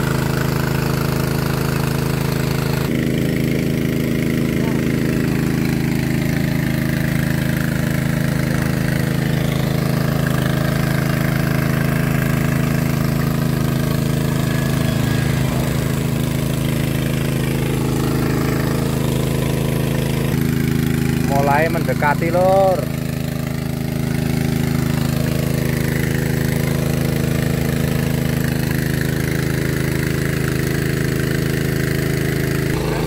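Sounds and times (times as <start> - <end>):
water pump engine running: 0.0 - 33.0.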